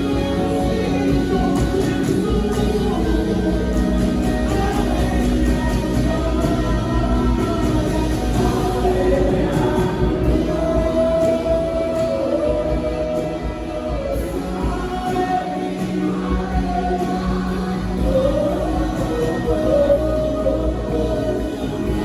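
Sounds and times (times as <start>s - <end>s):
gospel choir singing: 0.0s - 22.0s
instrumental backing with bass: 0.0s - 22.0s.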